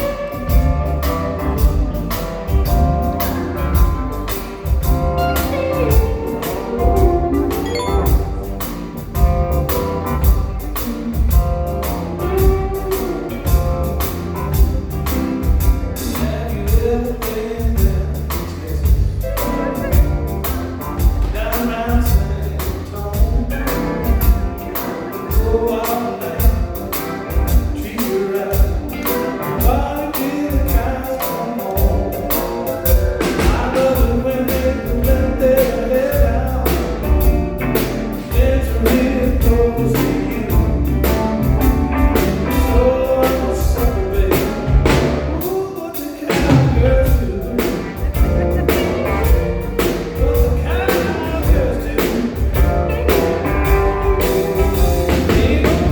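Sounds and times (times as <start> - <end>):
band music with singer: 0.0 - 55.9.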